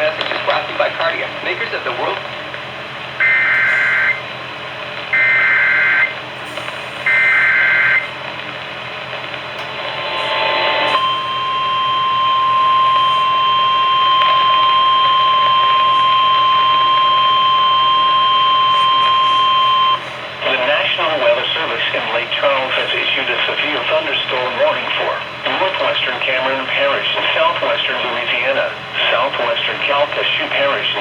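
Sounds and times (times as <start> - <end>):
warbling data bursts over radio: 3.2 - 4.3, 5.1 - 8.2, 9.2 - 31.0.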